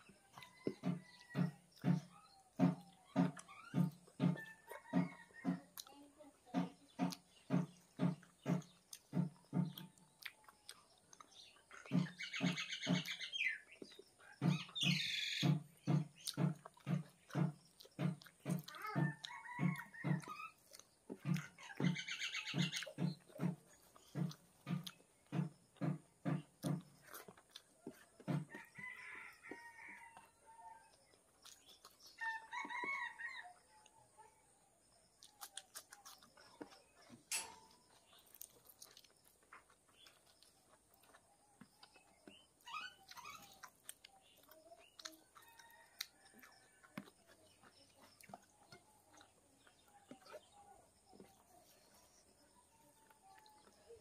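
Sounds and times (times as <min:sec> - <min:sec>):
chewing: 0:00.0 - 0:33.7, 0:35.0 - 0:54.0.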